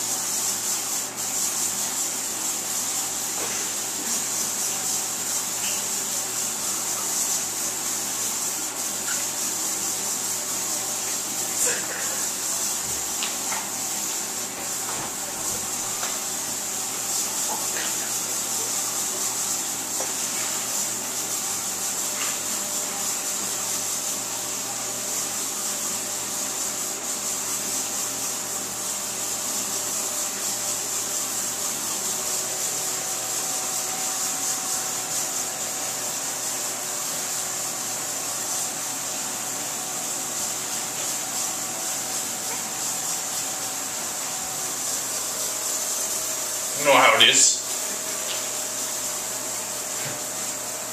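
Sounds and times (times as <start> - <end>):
aerosol can spraying: 0.0 - 50.9.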